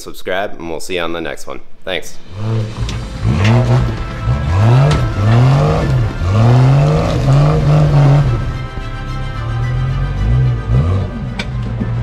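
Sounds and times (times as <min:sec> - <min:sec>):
music: 0:02.2 - 0:12.0
vehicle engine revving: 0:02.2 - 0:12.0.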